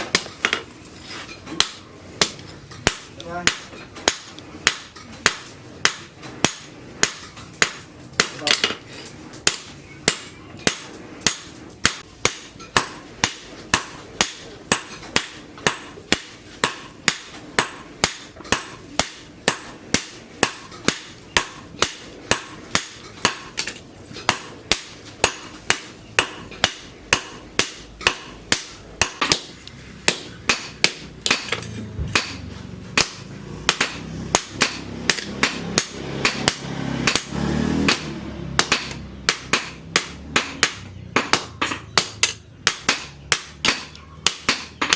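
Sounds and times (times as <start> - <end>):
hammer striking steel on an anvil: 1.5 - 44.9.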